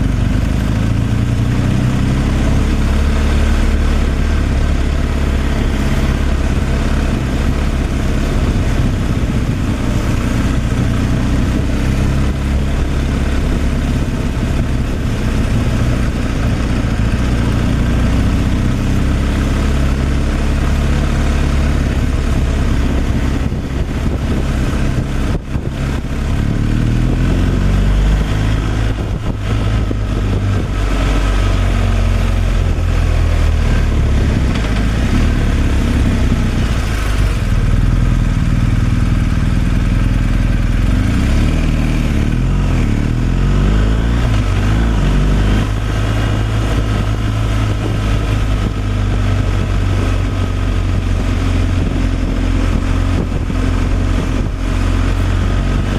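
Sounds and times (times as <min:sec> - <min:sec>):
road noise: 0:00.0 - 0:55.9
truck engine running: 0:00.0 - 0:55.9.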